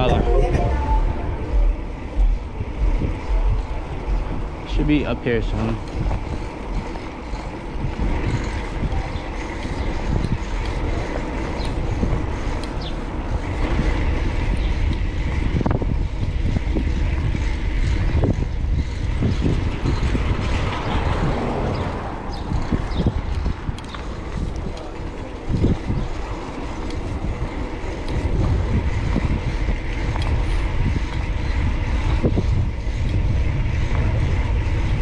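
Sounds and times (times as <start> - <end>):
passing traffic: 0.0 - 35.0
wind on microphone: 0.0 - 35.0.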